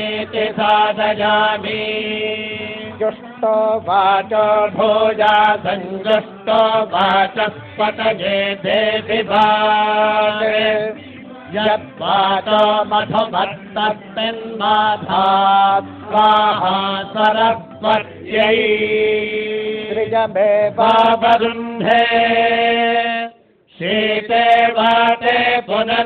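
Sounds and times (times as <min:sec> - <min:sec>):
person chanting mantras: 0:00.0 - 0:26.0.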